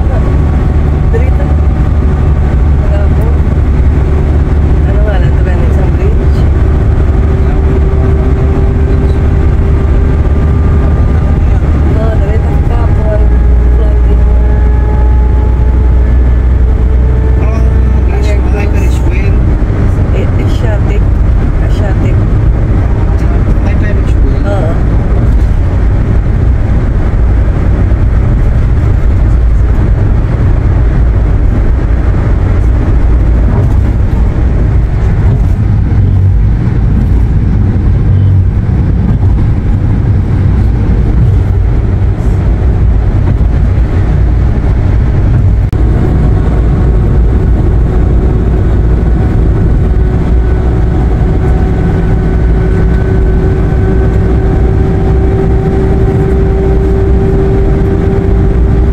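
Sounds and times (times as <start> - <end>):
faint steady whine: 0.0 - 58.9
van road and engine rumble: 0.0 - 58.9.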